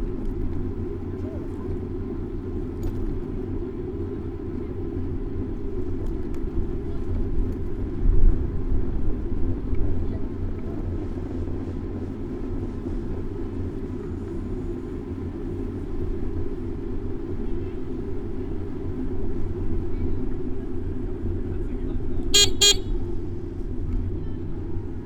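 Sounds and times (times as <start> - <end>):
wind rumble on microphone: 0.0 - 22.2
road noise: 0.0 - 25.0.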